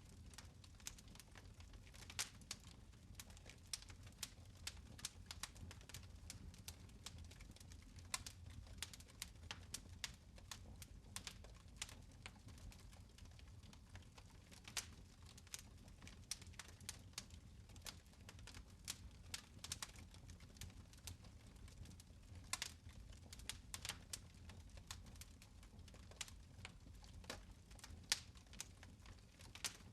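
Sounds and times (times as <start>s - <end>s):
fire crackling: 0.0s - 29.9s.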